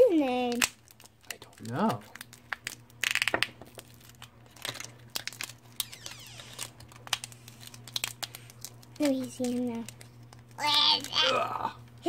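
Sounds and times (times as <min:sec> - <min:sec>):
plastic bag crinkling: 0:00.3 - 0:12.0.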